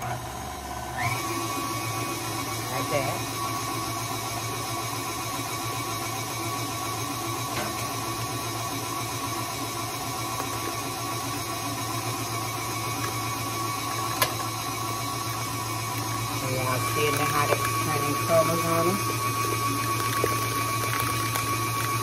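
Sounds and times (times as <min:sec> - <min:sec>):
stand mixer running: 0:00.0 - 0:22.0.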